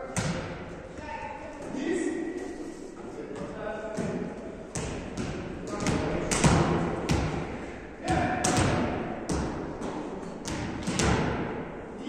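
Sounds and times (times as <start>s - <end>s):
volleyballs hit and bouncing: 0.0s - 2.1s, 3.3s - 11.9s.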